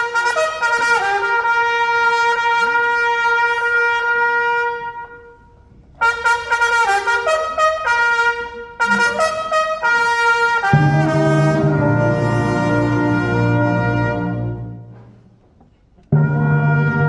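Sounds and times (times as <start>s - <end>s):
brass band playing slowly: 0.0s - 17.0s.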